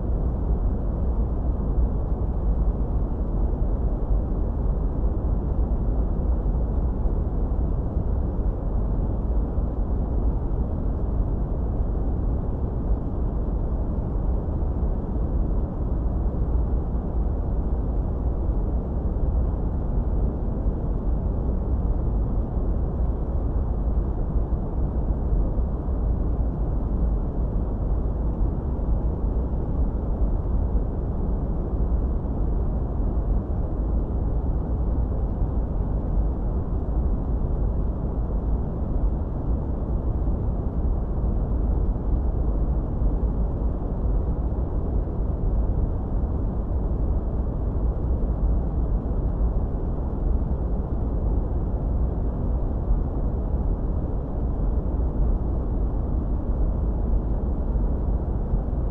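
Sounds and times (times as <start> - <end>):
deep rumbling white noise: 0.0 - 58.9.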